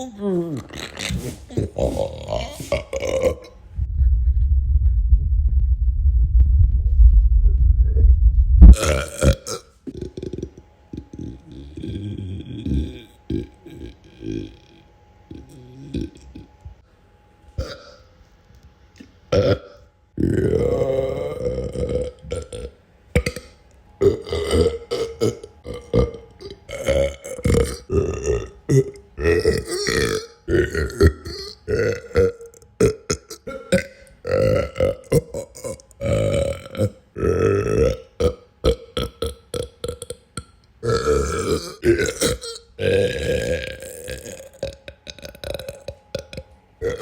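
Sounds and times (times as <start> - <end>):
person burping: 0.0 - 3.6, 8.7 - 16.6, 17.6 - 18.0, 19.3 - 47.0.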